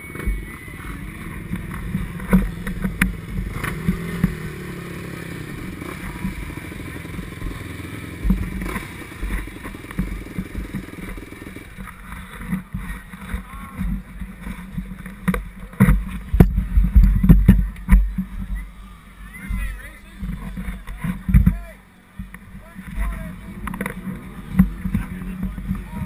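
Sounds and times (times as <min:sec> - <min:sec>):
noisy wash: 0:00.0 - 0:26.0
two-stroke motorcycle engine running: 0:00.0 - 0:26.0.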